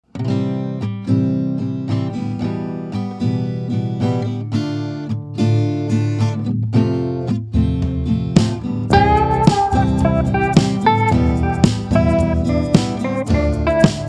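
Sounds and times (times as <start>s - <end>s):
plucked string instrumental music: 0.1s - 14.0s.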